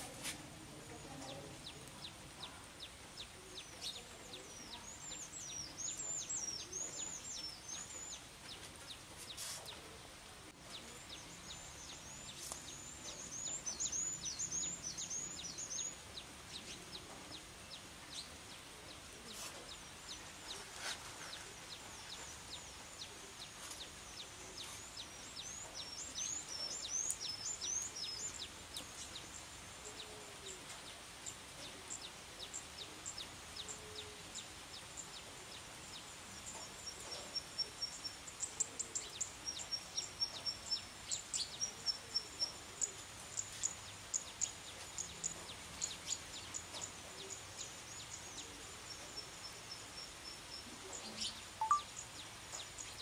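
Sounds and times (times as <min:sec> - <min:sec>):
light rain hissing: 0:00.0 - 0:53.0
songbird chirping: 0:00.0 - 0:53.0.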